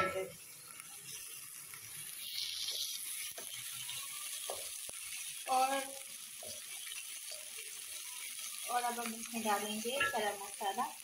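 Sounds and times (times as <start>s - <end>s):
onions sizzling in hot oil: 0.0s - 11.0s
spatula scraping and stirring: 0.9s - 10.5s.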